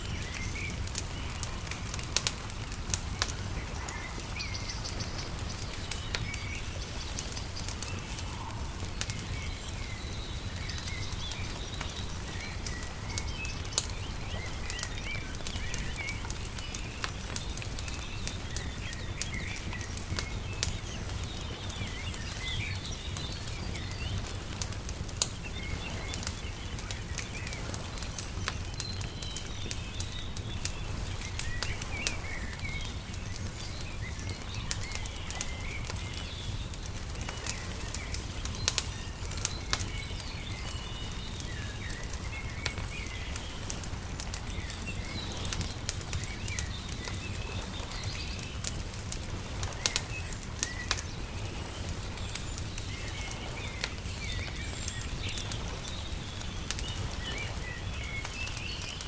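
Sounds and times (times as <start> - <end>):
small birds chirping: 0.0 - 59.0
wood fire crackling: 0.0 - 59.0.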